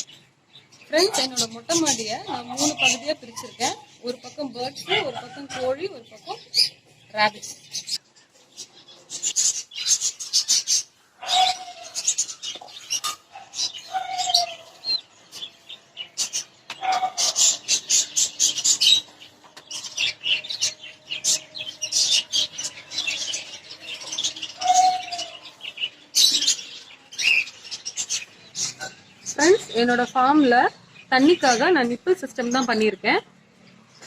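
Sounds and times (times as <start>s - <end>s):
lovebirds chirping and chattering: 0.0s - 34.0s.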